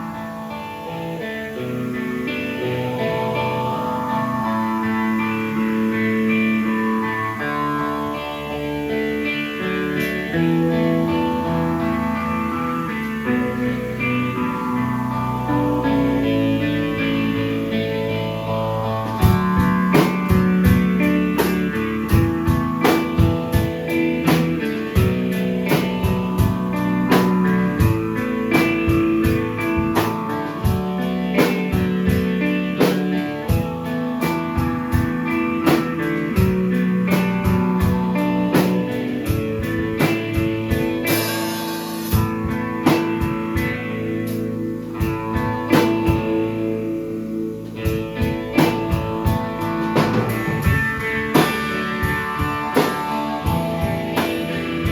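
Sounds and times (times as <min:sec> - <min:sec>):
live band playing instrumental: 0:03.4 - 0:54.9.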